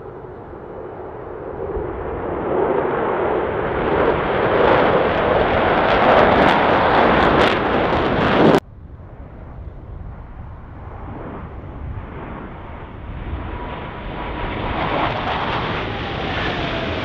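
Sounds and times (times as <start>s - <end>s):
faint jet rumble: 0.0s - 17.0s
jet engines roaring overhead: 0.0s - 17.0s.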